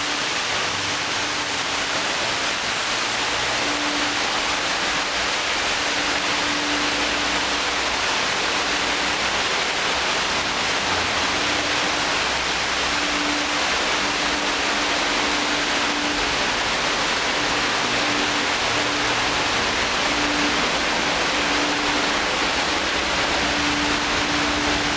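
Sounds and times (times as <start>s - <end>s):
water pouring down a cascade: 0.0s - 24.9s.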